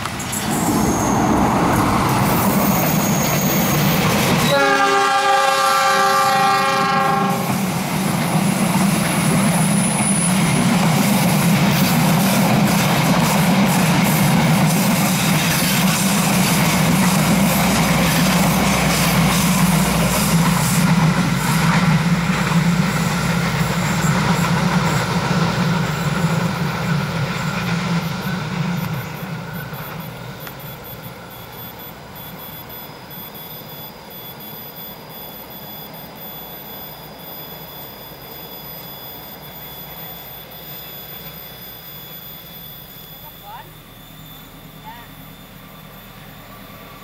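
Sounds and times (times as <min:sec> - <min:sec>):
heavy train rumble: 0:00.0 - 0:41.3
train wheels on rails: 0:00.0 - 0:43.7.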